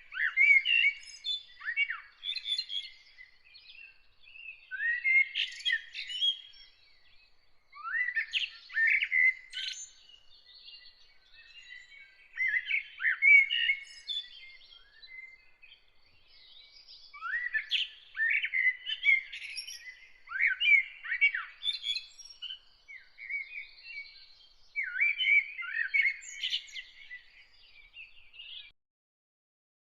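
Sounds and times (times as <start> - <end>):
songbirds chirping: 0.0 - 28.8.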